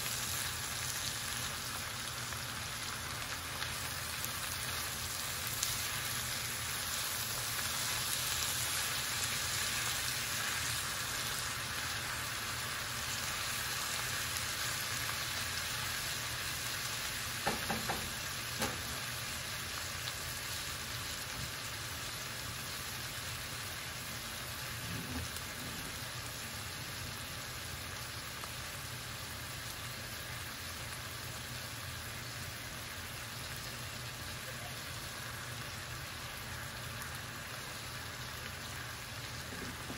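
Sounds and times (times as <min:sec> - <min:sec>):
vegetables sizzling in oil: 0:00.0 - 0:39.9.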